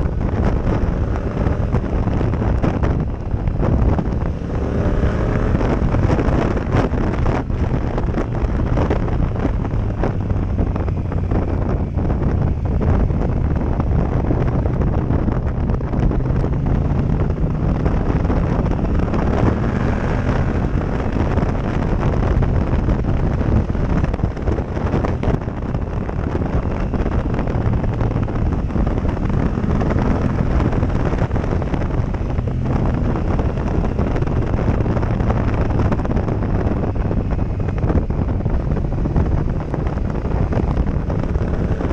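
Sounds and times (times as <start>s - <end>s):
motorcycle engine running: 0.0s - 41.9s
wind buffeting microphone: 0.0s - 41.9s.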